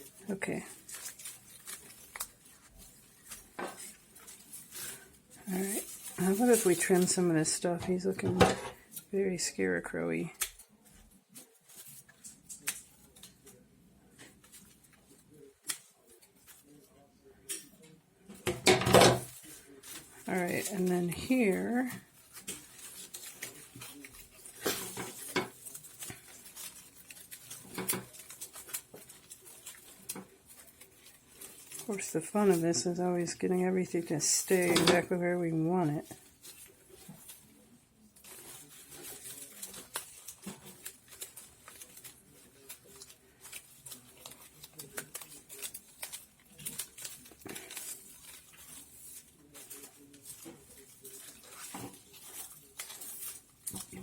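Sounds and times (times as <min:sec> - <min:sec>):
palm leaves rustling and crackling: 0:00.0 - 0:09.6, 0:10.4 - 0:54.0.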